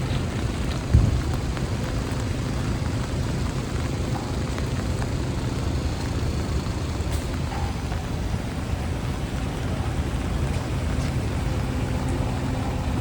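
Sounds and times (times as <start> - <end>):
low rumble of traffic: 0.0 - 13.0
rain hissing on wet roads: 0.0 - 13.0.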